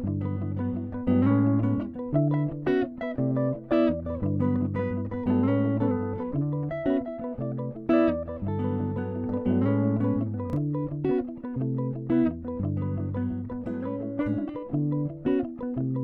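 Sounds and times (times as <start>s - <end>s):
plucked guitar: 0.0s - 16.0s.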